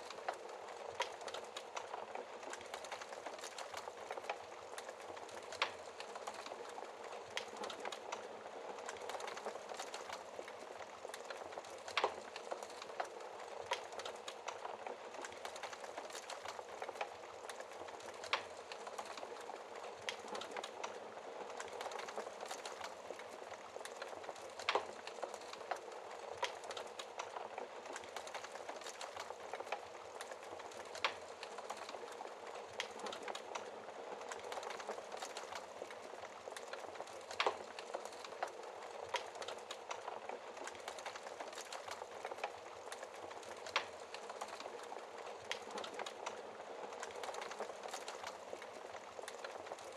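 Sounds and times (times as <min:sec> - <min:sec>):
burning wood popping: 0:00.0 - 0:49.9
campfire crackling: 0:00.0 - 0:49.9.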